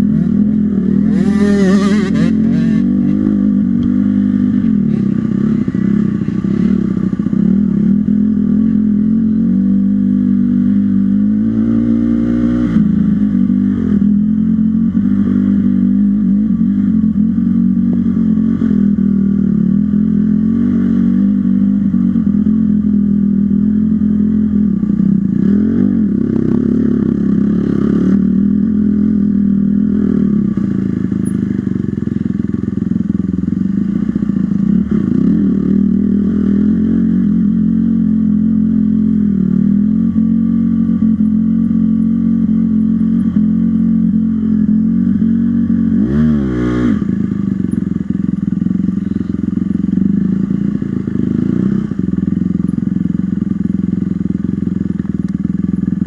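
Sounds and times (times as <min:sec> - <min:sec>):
dirt bike engine revving: 0:00.0 - 0:31.6, 0:33.6 - 0:52.1.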